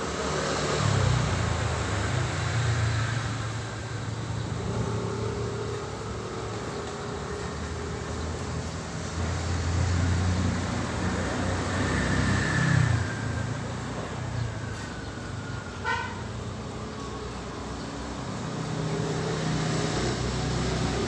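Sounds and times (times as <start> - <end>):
traffic noise: 0.0 - 21.0
vehicle engine rumble passing: 0.0 - 21.0.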